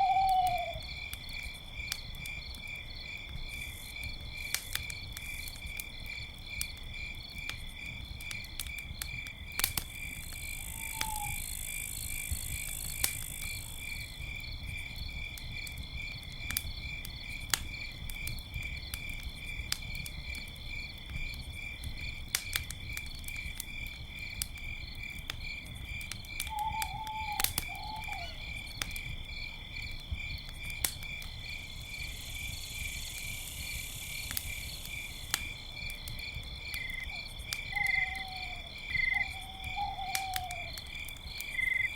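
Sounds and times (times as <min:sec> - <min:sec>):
campfire crackling and popping: 0:00.0 - 0:41.9
crickets chirping: 0:00.0 - 0:41.9.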